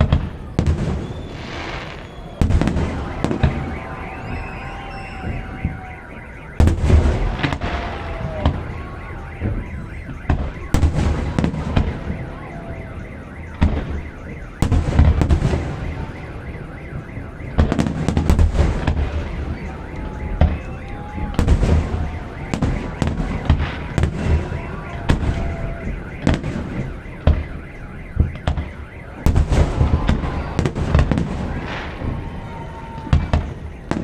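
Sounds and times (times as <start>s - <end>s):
car alarm wailing: 0.0s - 34.0s
fireworks booming and crackling: 0.0s - 34.0s.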